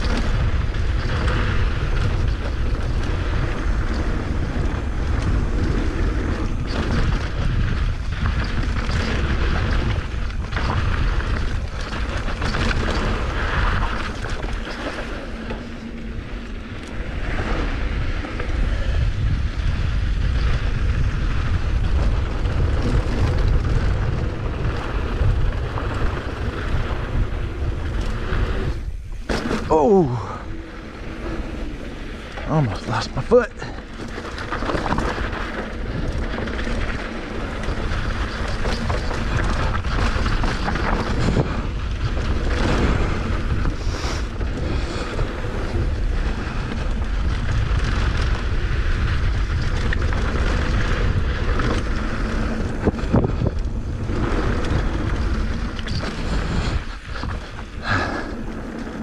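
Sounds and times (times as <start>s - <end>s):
bike rattling over bumps: 0.0s - 59.0s
wind buffeting microphone: 0.0s - 59.0s.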